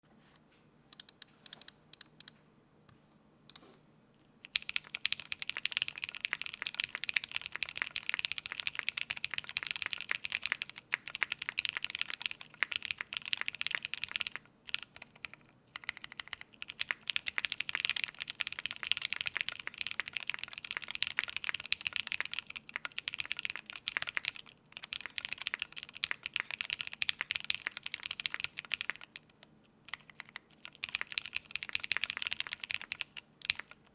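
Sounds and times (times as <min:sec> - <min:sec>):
typing on mechanical keyboard: 0:04.4 - 0:33.9.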